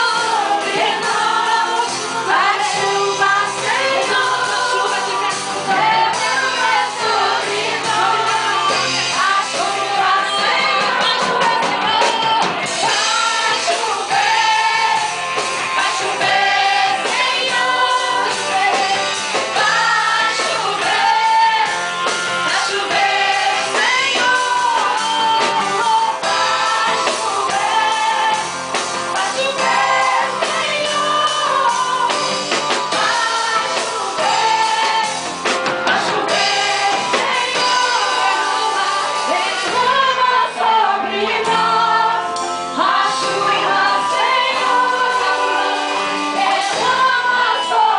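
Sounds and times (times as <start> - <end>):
voices singing together: 0.0 - 47.9.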